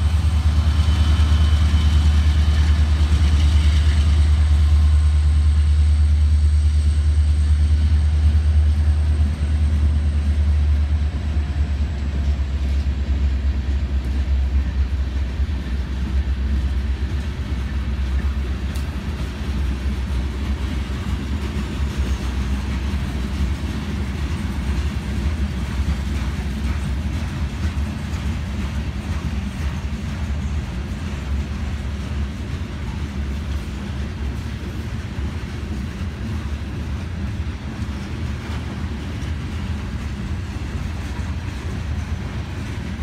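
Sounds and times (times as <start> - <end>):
deep locomotive drone: 0.0 - 43.0
train wheels rumbling on rail: 0.0 - 43.0.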